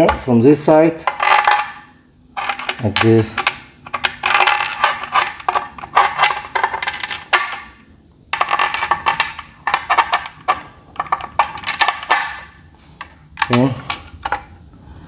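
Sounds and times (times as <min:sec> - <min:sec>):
metal bolts clinking and rattling: 0:01.0 - 0:07.8, 0:08.4 - 0:14.6.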